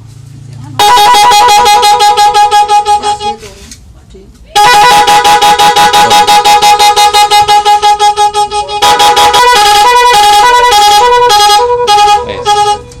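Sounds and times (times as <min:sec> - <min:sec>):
multi-tone horn blasts: 0:00.8 - 0:03.6, 0:04.6 - 0:13.0.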